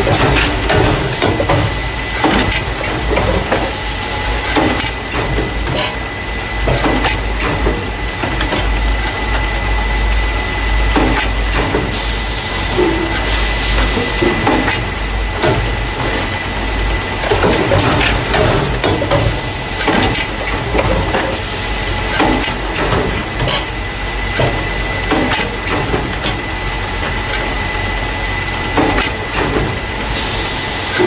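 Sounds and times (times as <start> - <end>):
machine clacks and knocks: 0.0 - 9.6, 10.8 - 31.0
machine low hum and whine: 0.0 - 31.0.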